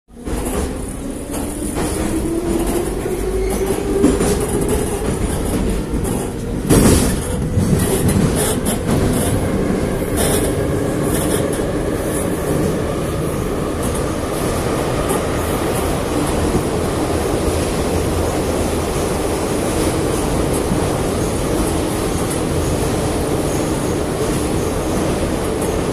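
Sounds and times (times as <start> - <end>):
rising train whine: 0.1 - 25.9
wheels rumbling on rail: 0.1 - 25.9.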